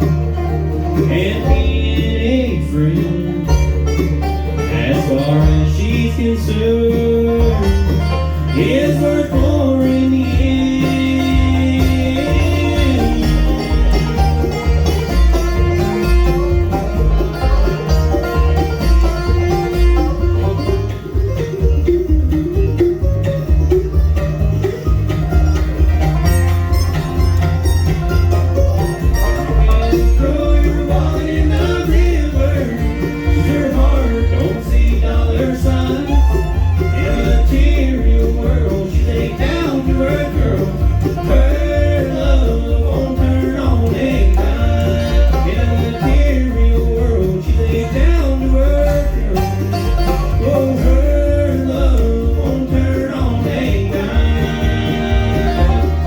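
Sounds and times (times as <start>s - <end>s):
banjo picking lead: 0.0s - 56.0s
bluegrass band playing: 0.0s - 56.0s.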